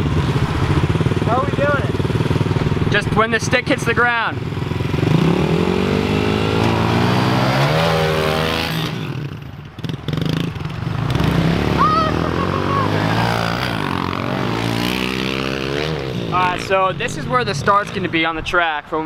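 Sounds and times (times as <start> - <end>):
pit bike engines revving: 0.0 - 19.0.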